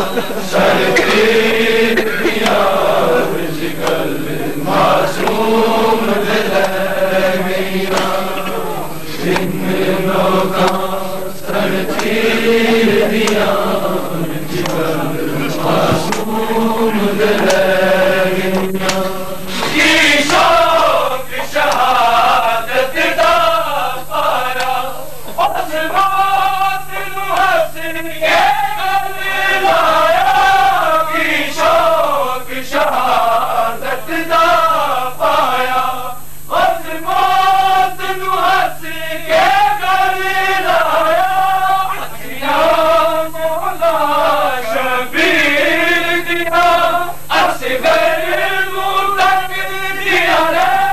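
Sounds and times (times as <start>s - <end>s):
men chanting a lament: 0.0s - 50.9s.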